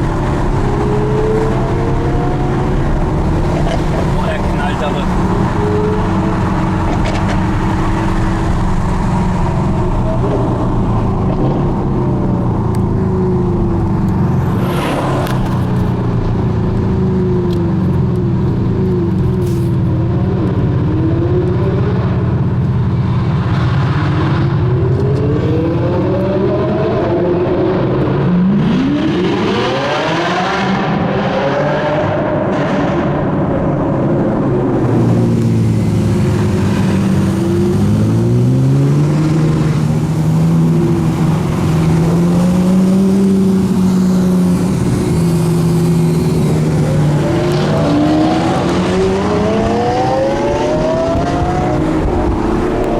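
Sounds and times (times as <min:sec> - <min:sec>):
road and engine drone: 0:00.0 - 0:52.9
sports car engines revving: 0:00.0 - 0:52.9.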